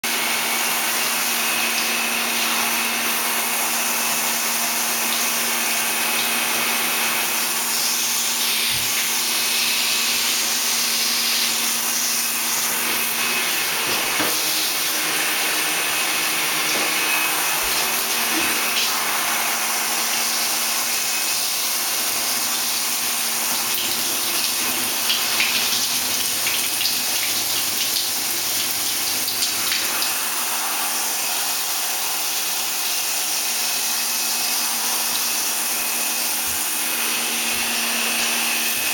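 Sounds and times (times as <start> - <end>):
shower water spraying: 0.3 - 38.9.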